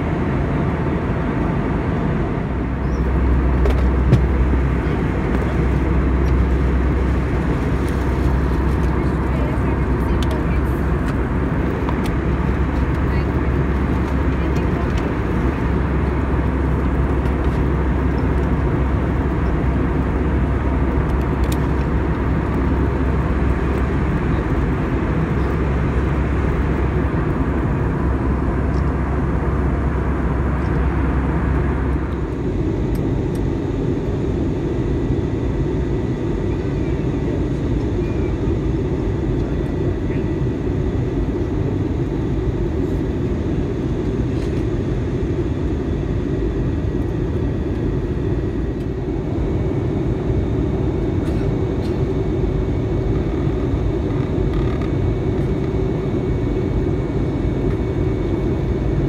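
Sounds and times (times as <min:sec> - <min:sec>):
airliner cabin roar: 0:00.0 - 0:59.0.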